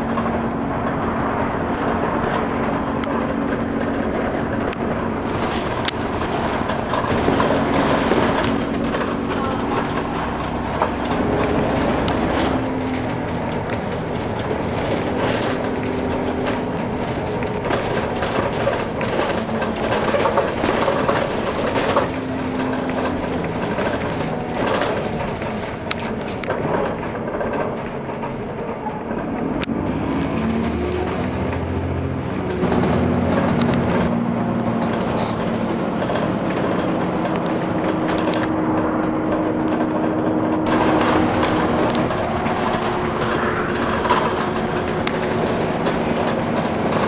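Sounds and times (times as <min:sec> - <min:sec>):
bodywork rattles and knocks: 0:00.0 - 0:47.0
bus engine humming: 0:00.0 - 0:47.0
road noise rumble: 0:00.0 - 0:47.0.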